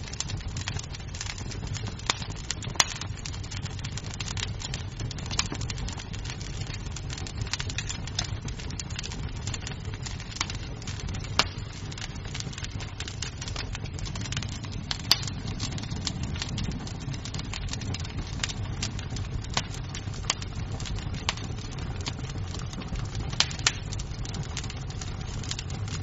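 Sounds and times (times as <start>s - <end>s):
fire crackling pops: 0.0s - 26.0s
flames rumbling: 0.0s - 26.0s.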